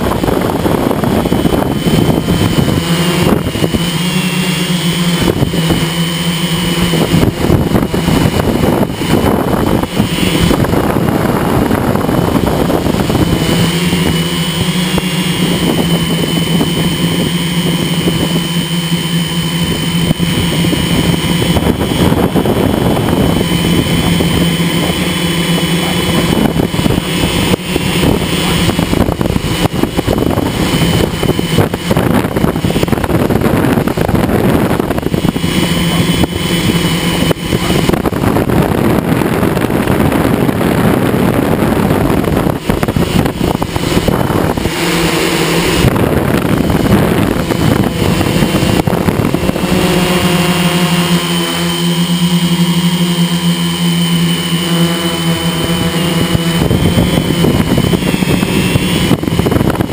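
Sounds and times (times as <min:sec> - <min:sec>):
wind rushing: 0:00.0 - 0:04.3, 0:04.9 - 0:59.9
drone motors humming: 0:00.0 - 0:59.9.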